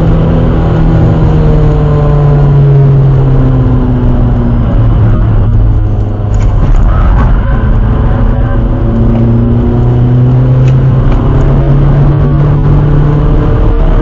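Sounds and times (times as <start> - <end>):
diesel engine accelerating: 0.0 - 14.0.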